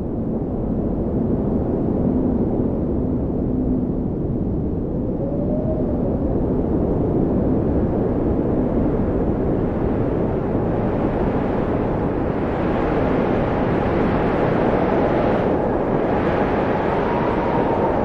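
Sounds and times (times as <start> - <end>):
blizzard wind rushing: 0.0 - 18.0.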